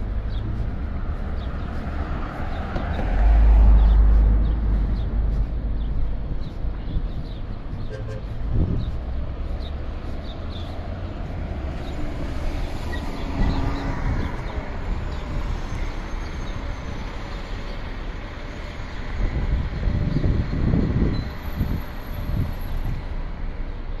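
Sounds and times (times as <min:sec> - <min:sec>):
low rumble of vehicles: 0:00.0 - 0:24.0.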